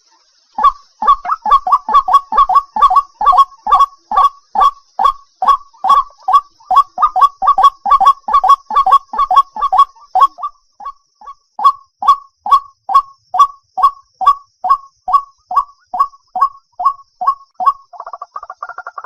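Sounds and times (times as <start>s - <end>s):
bird harsh croaking calls: 0.0s - 19.0s.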